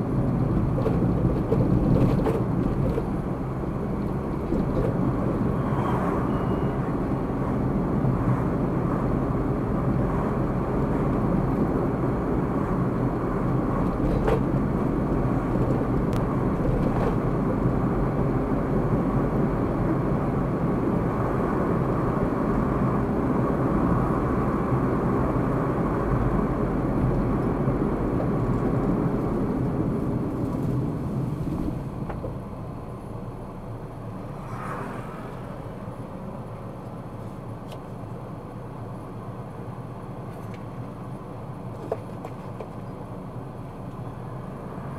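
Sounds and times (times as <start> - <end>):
car driving road noise: 0.0 - 44.9.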